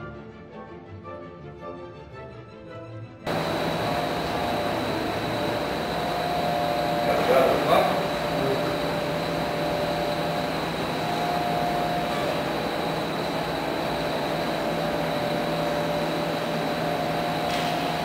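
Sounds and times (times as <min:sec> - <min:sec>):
faint steady tones: 0:03.3 - 0:18.0
ventilation and equipment hum: 0:03.3 - 0:18.0.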